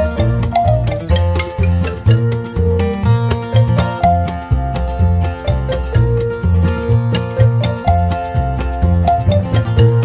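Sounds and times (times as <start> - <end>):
steady beat: 0.0 - 10.0
upbeat music with plucked guitar: 0.0 - 10.0.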